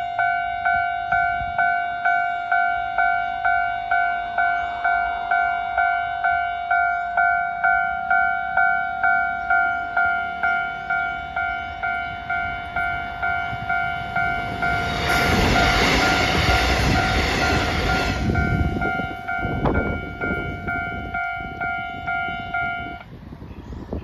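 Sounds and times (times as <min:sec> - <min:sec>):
level-crossing warning bell: 0:00.0 - 0:23.1
train passing: 0:00.0 - 0:24.0.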